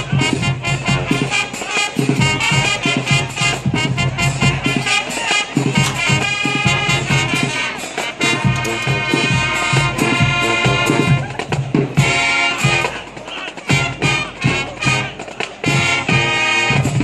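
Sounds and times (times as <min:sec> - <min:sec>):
brass section chords: 0:00.0 - 0:17.0
steady drum beat: 0:00.0 - 0:17.0.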